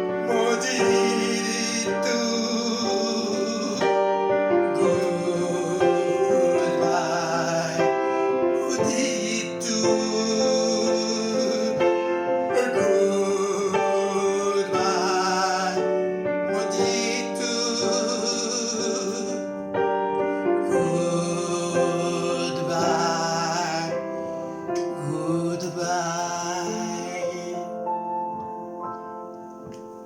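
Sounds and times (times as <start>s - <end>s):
person singing: 0.0s - 28.8s
keyboard accompaniment: 0.0s - 30.0s.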